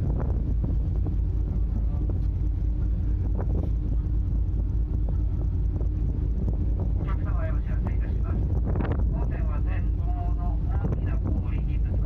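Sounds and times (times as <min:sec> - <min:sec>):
ship engines rumbling: 0:00.0 - 0:12.0
steady hum: 0:00.0 - 0:12.0
wind buffeting microphone: 0:00.0 - 0:12.0.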